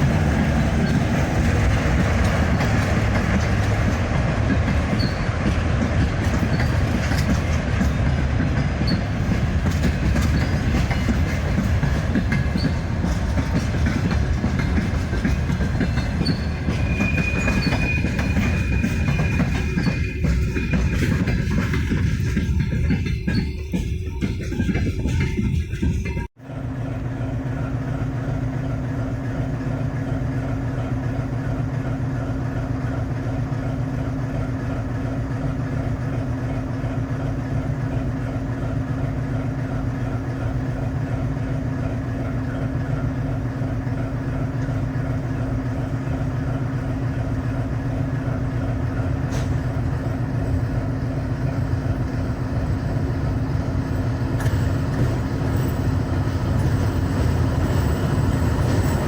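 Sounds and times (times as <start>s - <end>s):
locomotive engine running: 0.0s - 59.0s.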